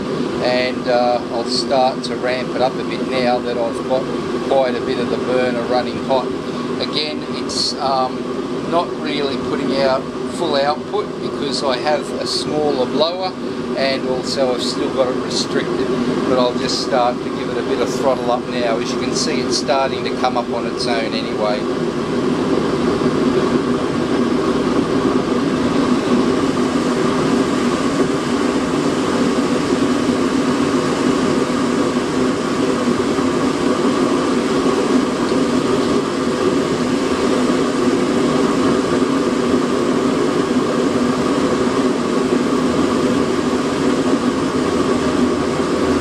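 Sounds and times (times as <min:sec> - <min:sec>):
air blower humming: 0:00.0 - 0:46.0
burner flame rushing: 0:00.0 - 0:46.0.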